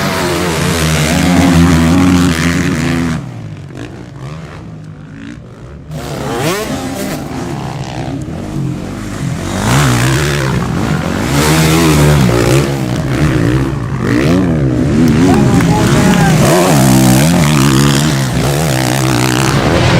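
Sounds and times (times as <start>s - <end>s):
motocross bike engines revving: 0.0s - 19.9s.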